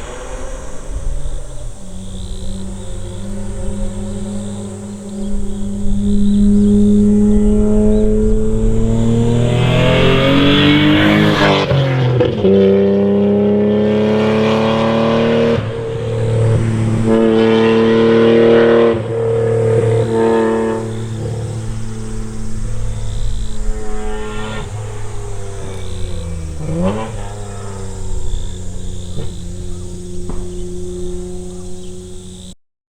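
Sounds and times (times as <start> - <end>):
car engine revving: 0.0 - 32.6.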